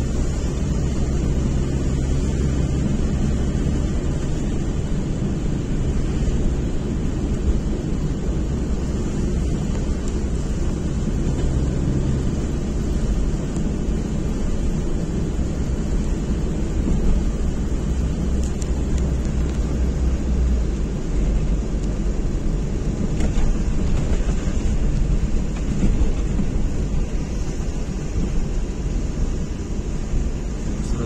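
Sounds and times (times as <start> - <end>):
car engine rumble: 0.0 - 31.0
tyres on wet asphalt: 0.0 - 31.0.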